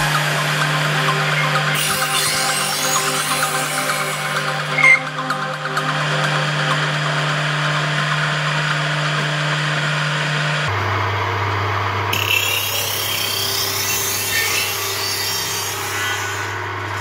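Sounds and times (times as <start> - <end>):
saw cutting wood: 0.0 - 10.7, 12.1 - 17.0
table saw motor hum: 0.0 - 17.0.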